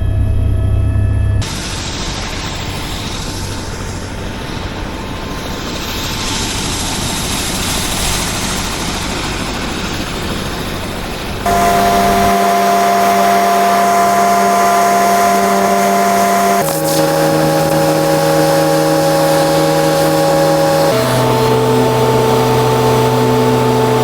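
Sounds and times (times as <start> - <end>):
helicopter turbine whine: 0.5 - 24.0
helicopter rotor rushing: 1.4 - 24.0.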